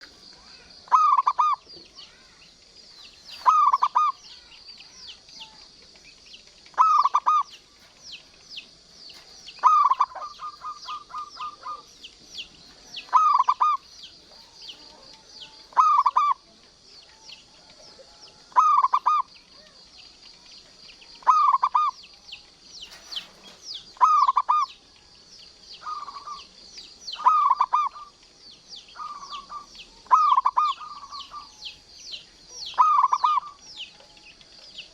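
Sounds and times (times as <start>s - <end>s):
dove cooing: 0.0s - 20.4s, 21.1s - 22.2s, 22.9s - 24.8s, 25.8s - 26.6s, 27.2s - 28.2s, 28.9s - 31.8s, 32.6s - 34.9s
small birds chirping: 0.0s - 34.9s.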